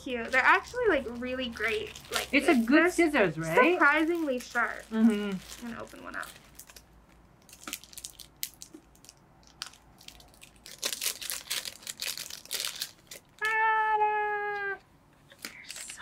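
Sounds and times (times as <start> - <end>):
cellophane crinkling: 0.0 - 13.8.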